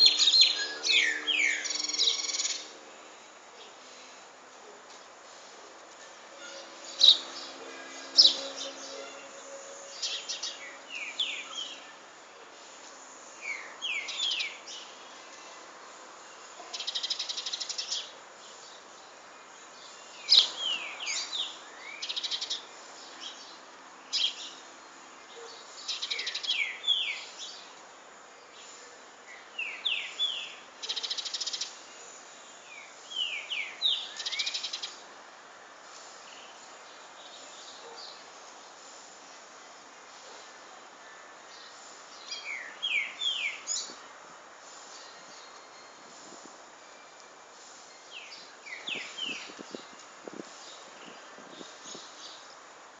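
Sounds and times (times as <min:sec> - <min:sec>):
songbirds singing: 0:00.0 - 0:04.3, 0:05.0 - 0:53.0.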